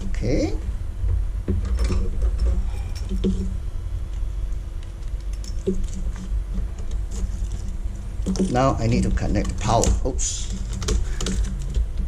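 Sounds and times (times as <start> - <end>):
faint hum: 0.0 - 12.0
low steady rumble: 0.0 - 12.0
cables being handled: 1.0 - 12.0.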